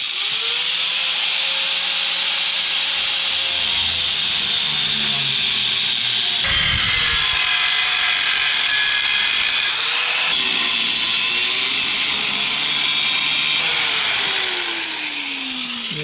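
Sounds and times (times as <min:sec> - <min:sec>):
power tool whining: 0:00.0 - 0:16.0.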